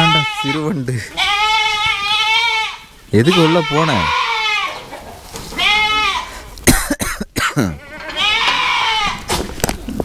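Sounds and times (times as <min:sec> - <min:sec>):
goats bleating: 0:00.0 - 0:06.5, 0:07.6 - 0:09.3.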